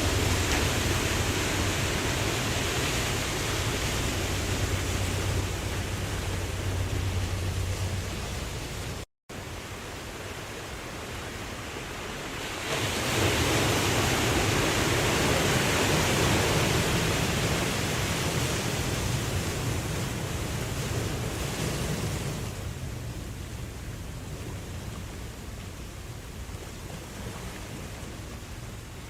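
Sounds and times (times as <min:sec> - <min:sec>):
ocean waves washing: 0:00.0 - 0:29.0.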